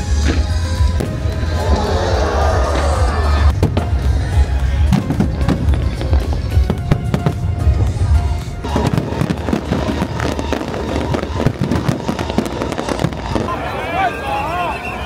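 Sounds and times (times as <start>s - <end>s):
fireworks banging and crackling: 0.0s - 15.0s
music playing: 0.0s - 15.0s.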